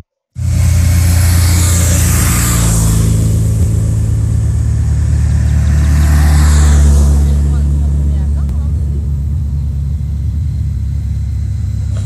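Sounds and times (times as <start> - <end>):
low engine drone: 0.0 - 12.0
motorcycles passing by: 0.4 - 12.0.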